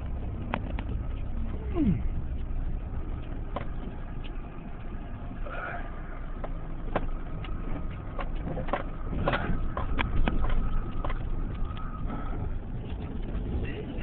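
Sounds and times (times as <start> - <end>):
body and suspension rattles: 0.0 - 14.0
car engine running low: 0.0 - 14.0.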